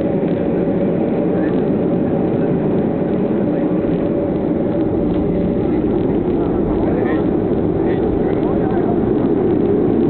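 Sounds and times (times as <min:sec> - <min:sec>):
engines and wheels rumbling: 0:00.0 - 0:10.0.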